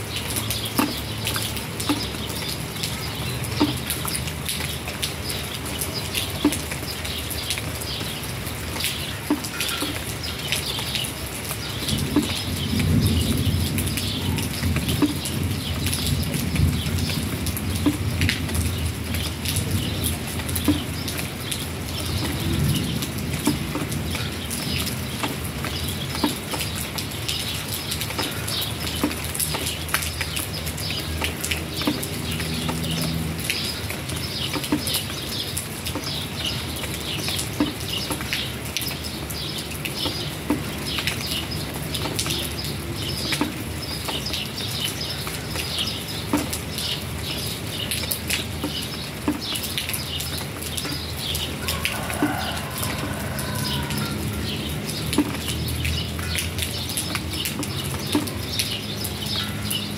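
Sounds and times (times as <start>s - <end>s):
raindrops tapping on concrete: 0.0s - 59.9s.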